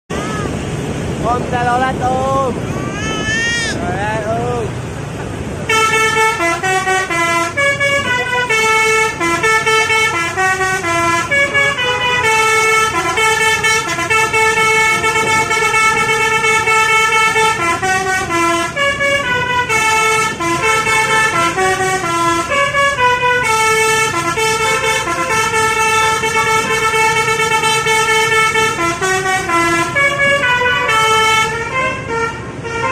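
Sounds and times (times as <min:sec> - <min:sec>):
musical bus air horn tune: 0:05.6 - 0:32.9.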